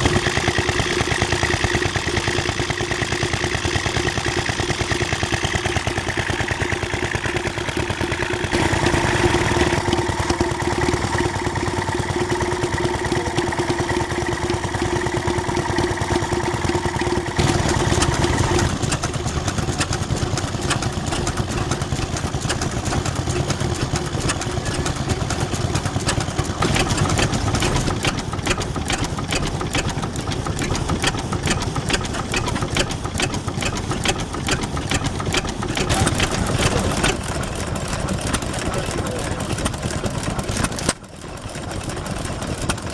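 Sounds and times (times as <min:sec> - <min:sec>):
stationary engines running: 0:00.0 - 0:42.9.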